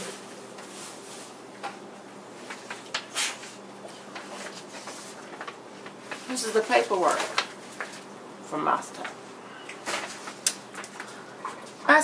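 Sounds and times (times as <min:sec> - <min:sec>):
faint hiss and hum: 0:00.0 - 0:12.0.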